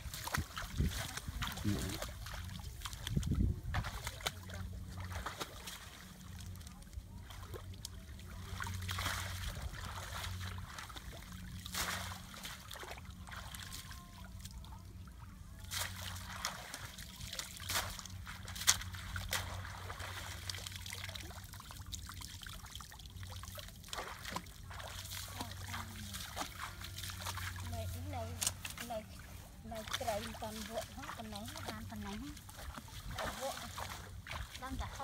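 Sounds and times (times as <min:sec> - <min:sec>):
steady low hum: 0:00.0 - 0:35.0
water trickling and splashing: 0:00.0 - 0:35.0.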